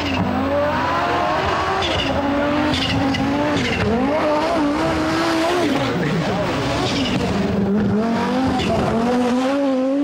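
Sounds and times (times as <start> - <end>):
rally car engine running hard: 0.0 - 10.0.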